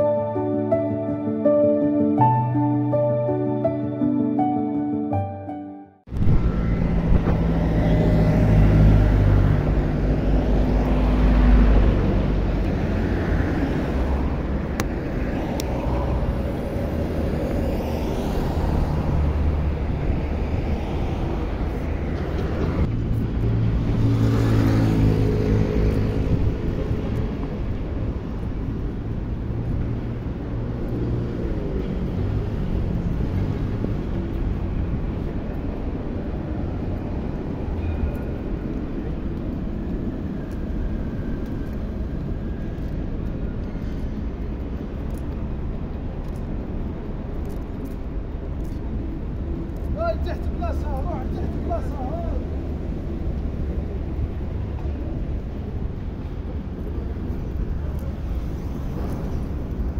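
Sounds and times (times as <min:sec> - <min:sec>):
low rumble of road noise: 0:06.0 - 0:59.9
motor vehicles passing: 0:06.1 - 0:59.9.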